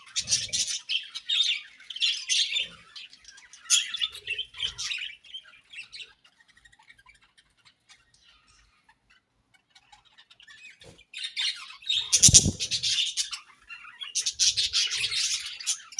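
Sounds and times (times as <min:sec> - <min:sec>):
budgerigars chirping and squawking: 0:00.0 - 0:15.9.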